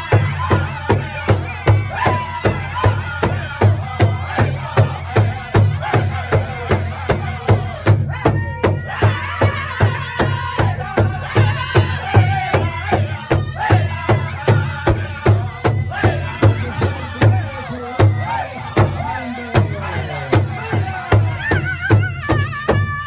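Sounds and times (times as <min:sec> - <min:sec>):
group singing: 0:00.0 - 0:22.9
large drum beating: 0:00.0 - 0:23.0.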